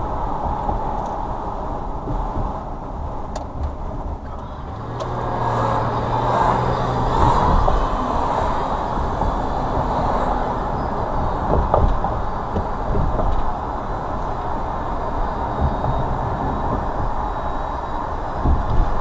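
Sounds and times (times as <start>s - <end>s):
car road noise from inside: 0.0s - 19.0s
tyre and wind hiss: 0.0s - 19.0s.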